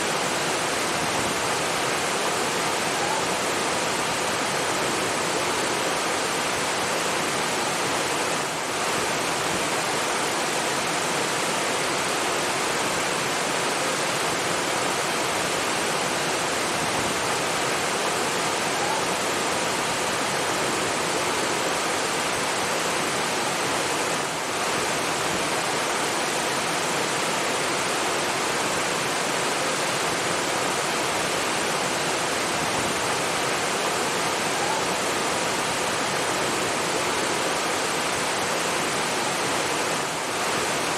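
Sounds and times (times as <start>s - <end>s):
rushing flowing water: 0.0s - 40.9s.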